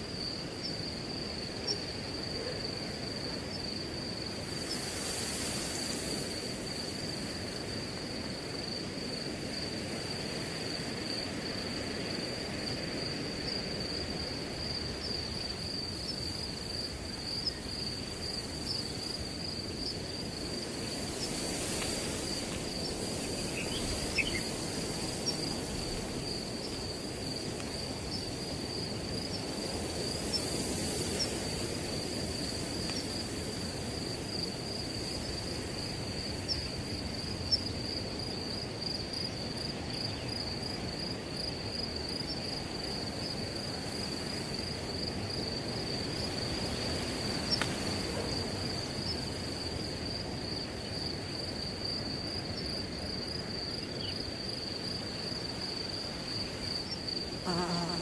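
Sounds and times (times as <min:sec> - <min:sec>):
crickets trilling: 0:00.0 - 0:58.0
wind through grass: 0:00.0 - 0:58.0.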